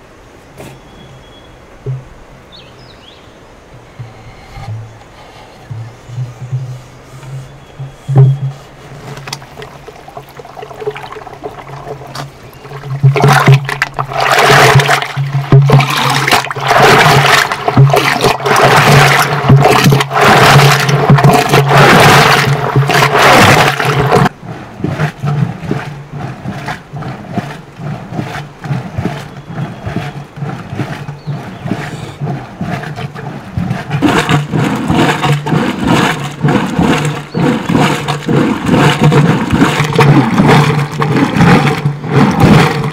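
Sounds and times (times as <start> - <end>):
wooden dasher sloshing curd: 4.0 - 42.9.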